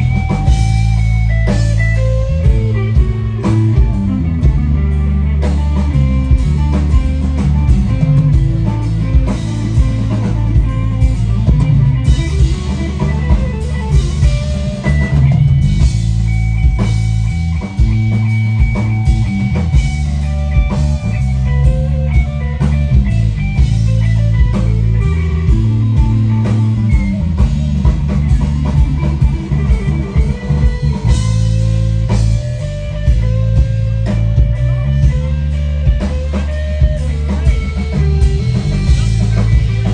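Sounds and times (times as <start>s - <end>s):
drum kit beat: 0.0s - 39.9s
electric guitar: 0.0s - 39.9s
heavy bass line: 0.0s - 39.9s.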